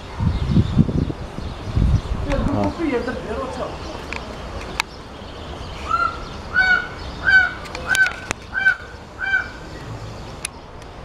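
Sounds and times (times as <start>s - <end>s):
bird calling: 0.0s - 10.8s.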